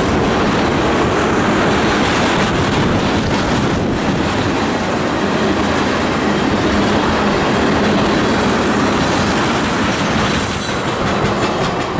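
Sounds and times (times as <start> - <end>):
train wheels rolling on rails: 0.0 - 11.9.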